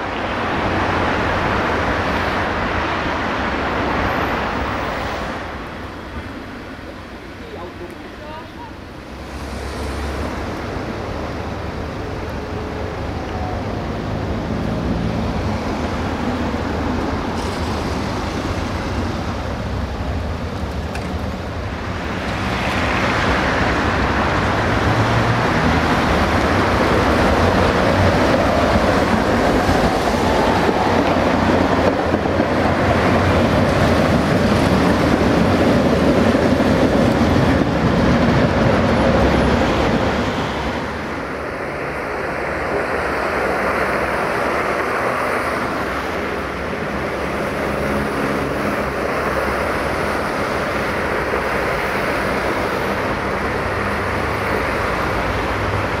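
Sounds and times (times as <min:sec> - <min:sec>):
street noise: 0:00.0 - 0:56.0
tram passing on rails: 0:00.0 - 0:56.0.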